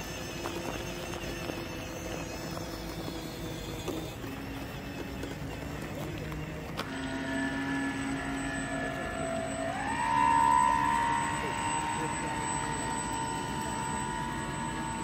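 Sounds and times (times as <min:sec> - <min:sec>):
model motors whining: 0:00.0 - 0:15.0.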